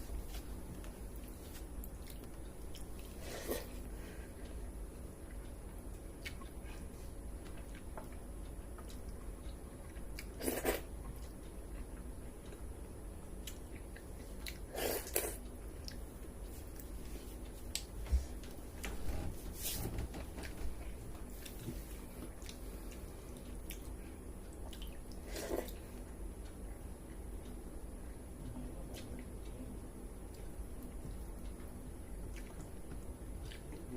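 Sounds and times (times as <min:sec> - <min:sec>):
soft chewing and mouth clicks: 0:00.2 - 0:19.0, 0:20.4 - 0:27.6, 0:28.4 - 0:33.9.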